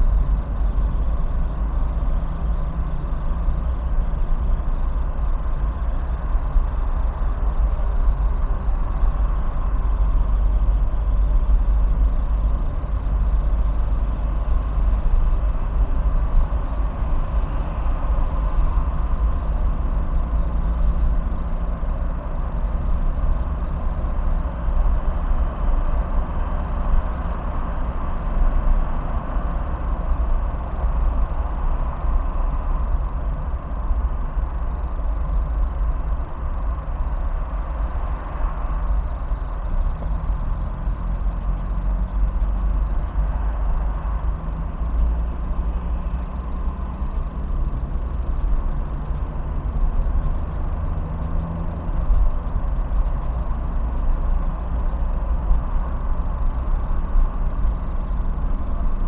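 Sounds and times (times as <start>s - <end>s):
car engine and tyres rumbling: 0.0s - 59.0s
engine hum: 0.0s - 59.0s.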